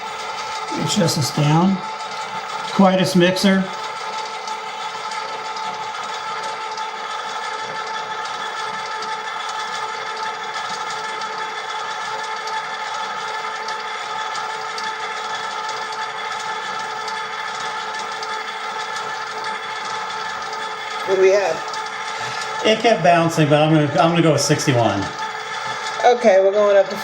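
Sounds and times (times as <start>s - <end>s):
stand mixer motor humming: 0.0s - 27.0s.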